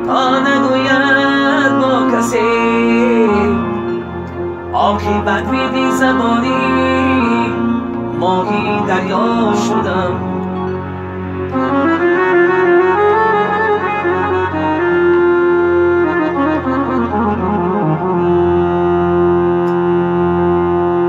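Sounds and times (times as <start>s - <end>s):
low drone: 0.0s - 21.0s
synthesizer reedy melody: 0.0s - 21.0s.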